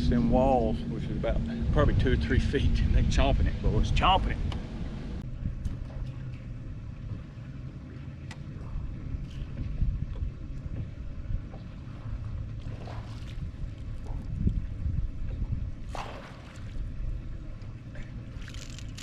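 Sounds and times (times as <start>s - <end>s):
boat engine rumbling: 0.0s - 19.0s
wind buffeting microphone: 0.0s - 19.0s.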